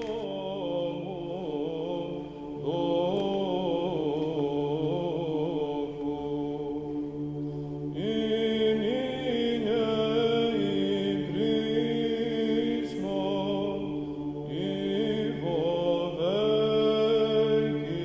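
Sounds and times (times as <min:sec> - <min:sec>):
held vocal drone: 0:00.0 - 0:18.0
melismatic chant singing: 0:00.0 - 0:18.0.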